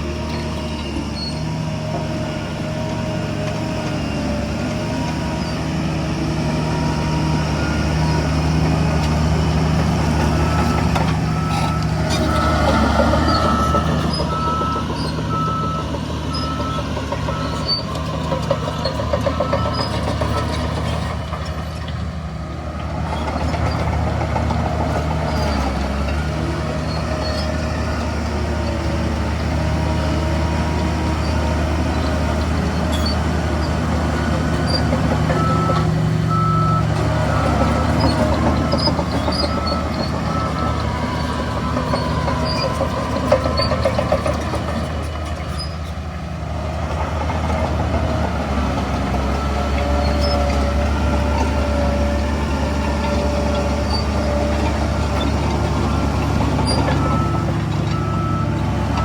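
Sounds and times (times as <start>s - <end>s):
heavy diesel machinery engines: 0.0s - 59.0s.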